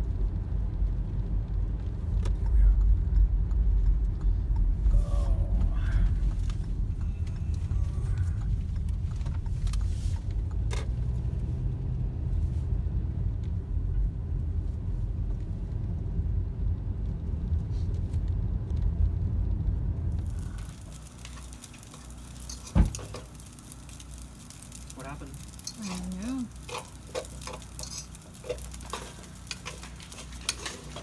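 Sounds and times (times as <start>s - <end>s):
car engine low rumble: 0.0s - 31.0s.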